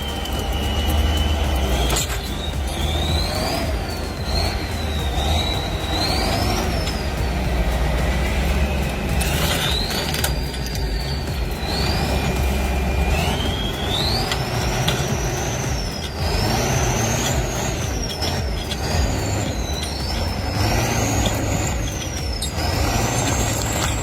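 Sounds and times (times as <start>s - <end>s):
tractor diesel engine under load: 0.0s - 24.0s
turbo whistle: 0.0s - 24.0s.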